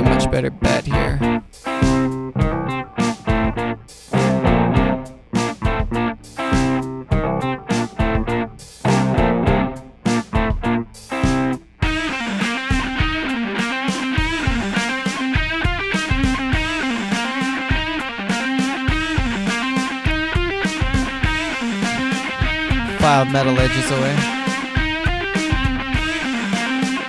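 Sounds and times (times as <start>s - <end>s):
bass guitar: 0.0s - 27.0s
overdriven electric guitar: 0.0s - 27.0s
programmed drums: 0.0s - 27.0s.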